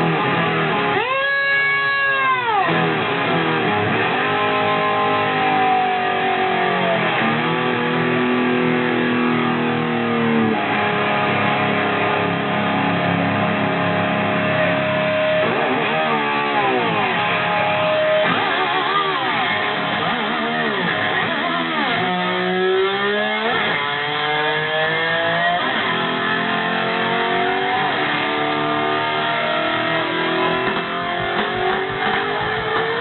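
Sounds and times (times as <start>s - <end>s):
live rock band: 0.0s - 24.5s, 25.4s - 33.0s
slide guitar swooping glides: 0.0s - 33.0s.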